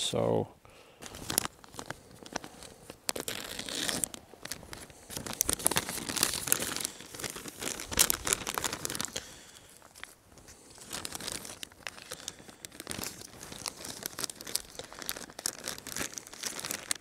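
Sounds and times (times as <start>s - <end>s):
plastic packaging crinkling and tearing: 1.0s - 17.0s.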